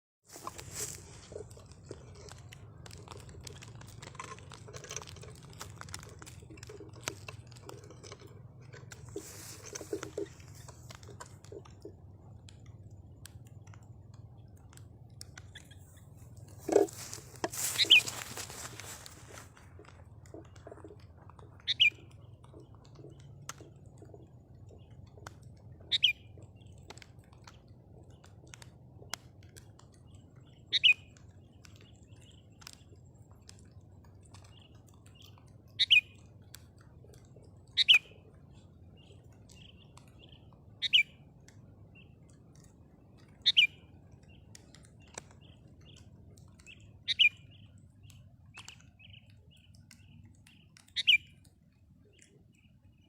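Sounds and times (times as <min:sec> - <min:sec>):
soft bird chirps: 0:06.0 - 0:53.0.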